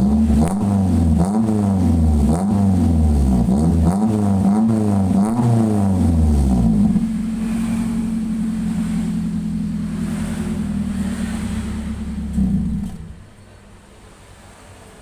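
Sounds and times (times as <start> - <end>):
car engine revving and idling: 0.0 - 13.4.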